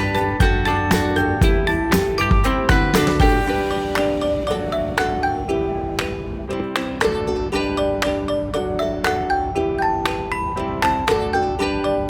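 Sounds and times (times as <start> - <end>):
plucked-string melody: 0.0 - 12.0.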